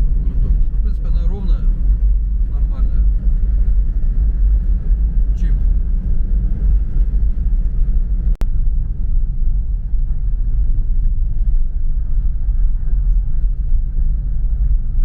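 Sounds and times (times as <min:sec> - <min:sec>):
car driving on dirt road: 0:00.0 - 0:15.0.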